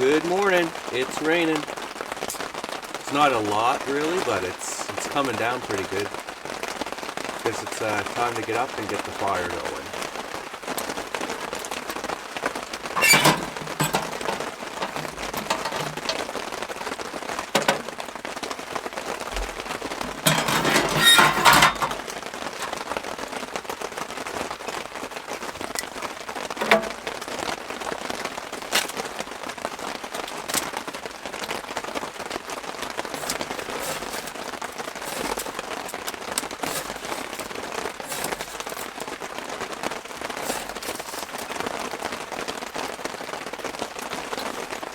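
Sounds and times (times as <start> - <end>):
rain on a tarp roof: 0.0 - 44.9.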